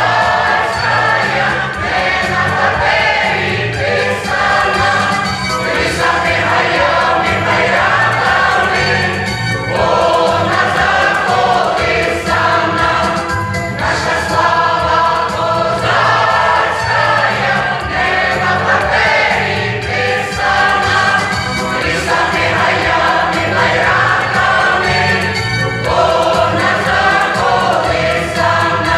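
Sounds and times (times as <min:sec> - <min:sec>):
choir singing: 0:00.0 - 0:28.9.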